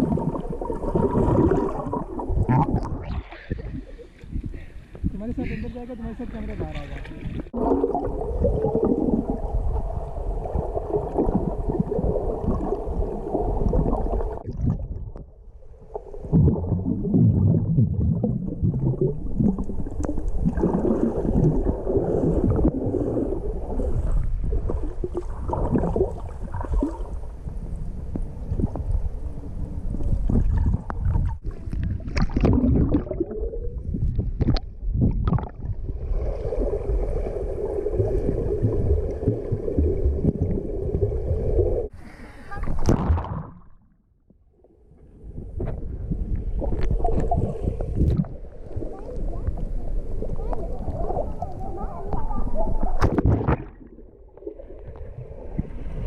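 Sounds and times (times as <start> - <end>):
underwater gurgling and rushing: 0.0 - 56.0.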